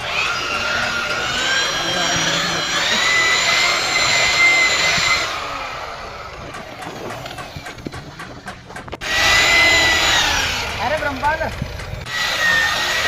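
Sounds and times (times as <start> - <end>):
electric tool motor whining: 0.0 - 13.0.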